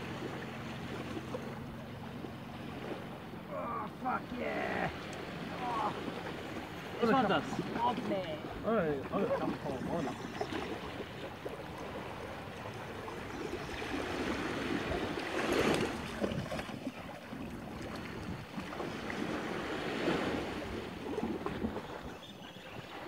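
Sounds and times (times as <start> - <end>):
small waves on rocky shore: 0.0 - 23.0.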